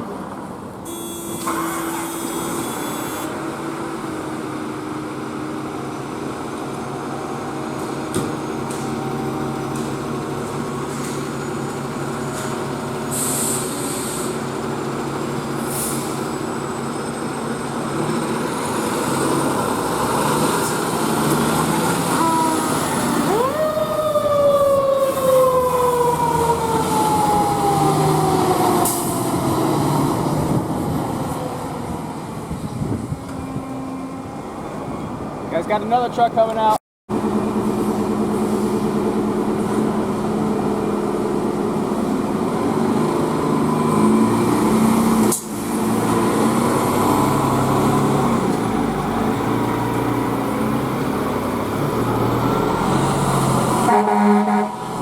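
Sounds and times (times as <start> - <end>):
fire truck diesel engine: 0.0 - 55.0.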